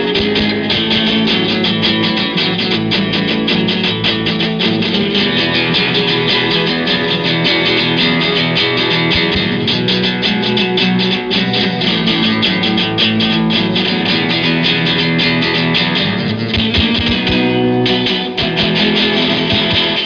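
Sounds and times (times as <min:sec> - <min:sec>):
fast guitar music: 0:00.0 - 0:20.0.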